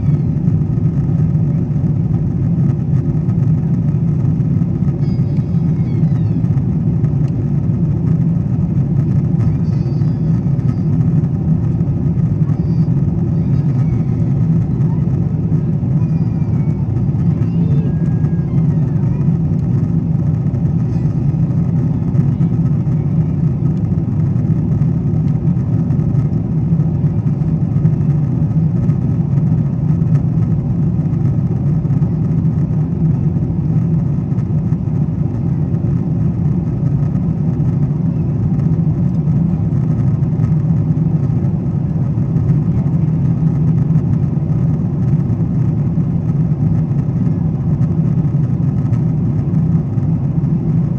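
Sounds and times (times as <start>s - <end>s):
airliner cabin jet engine roar: 0.0s - 50.9s.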